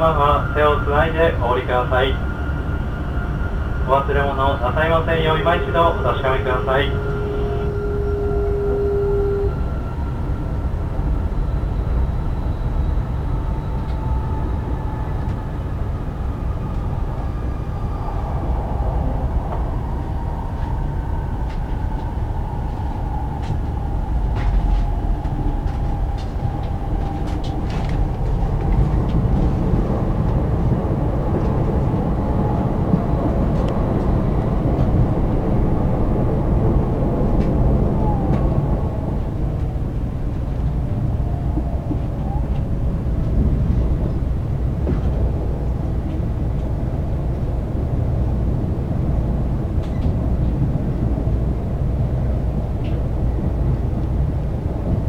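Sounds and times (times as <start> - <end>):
train cabin rumble: 0.0 - 55.0.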